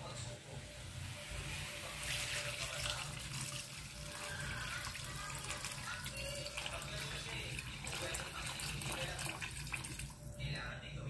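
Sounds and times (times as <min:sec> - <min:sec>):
water pouring into a metal wok: 0:01.4 - 0:10.4.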